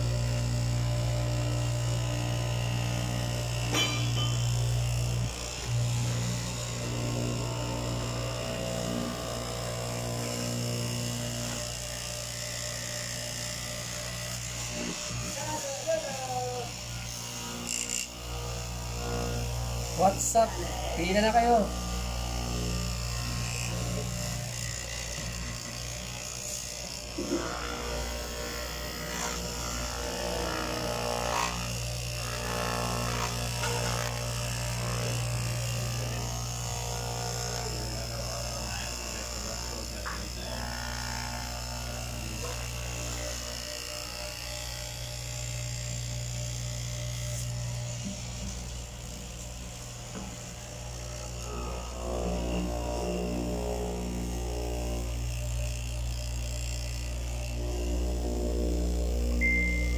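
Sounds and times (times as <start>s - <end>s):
fabric cutting machine buzzing: 0.0s - 59.9s.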